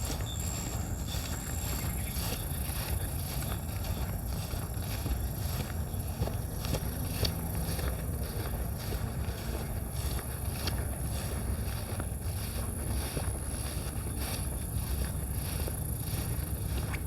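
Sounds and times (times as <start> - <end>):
footsteps on a trail: 0.0 - 17.0
wind rumble on microphone: 0.0 - 17.0.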